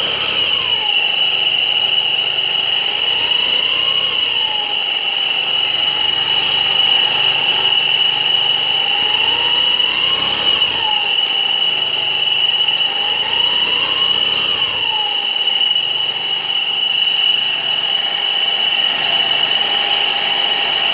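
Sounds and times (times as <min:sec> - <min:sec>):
high-pitched whine: 0:00.0 - 0:20.9
motorcycle engine revving: 0:00.0 - 0:20.9.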